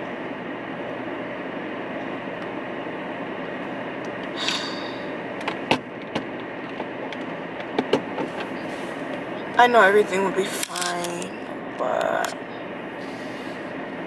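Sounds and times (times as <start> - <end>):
car cabin engine hum: 0.0 - 14.0.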